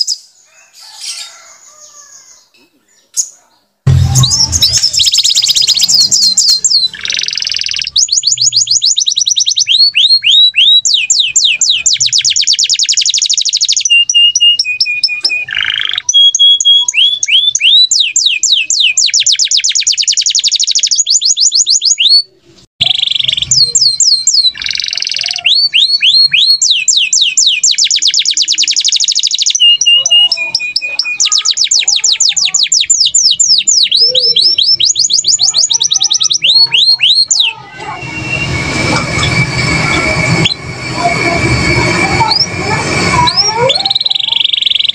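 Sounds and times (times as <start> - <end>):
bird chattering: 3.0 - 39.6, 41.6 - 44.9
songbird trilling: 4.0 - 38.4, 43.0 - 44.9.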